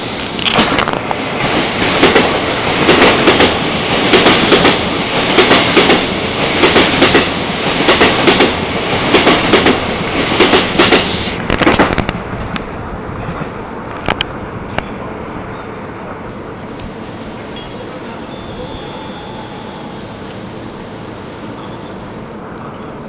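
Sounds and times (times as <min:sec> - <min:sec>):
train rushing past: 0:00.0 - 0:23.0.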